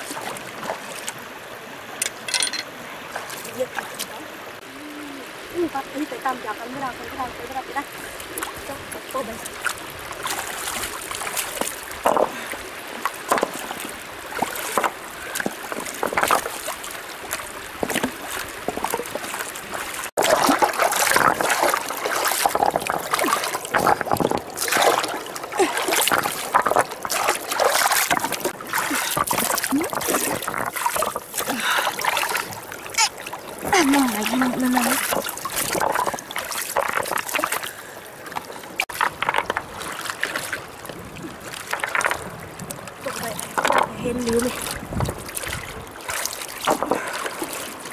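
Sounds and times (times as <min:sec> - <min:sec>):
water splashing: 0:00.0 - 0:47.9.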